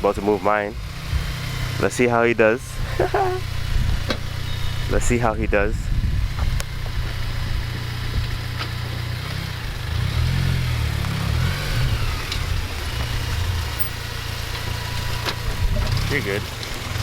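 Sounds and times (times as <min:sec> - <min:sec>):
car exhaust drone at low revs: 0:00.0 - 0:17.0.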